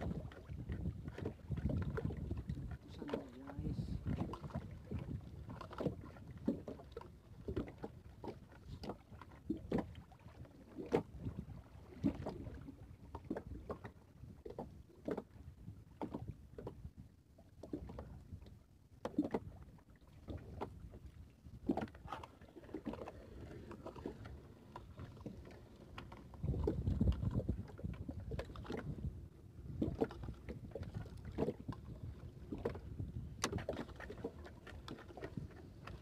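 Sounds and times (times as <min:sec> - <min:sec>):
low rumble of wind and water: 0:00.0 - 0:36.0.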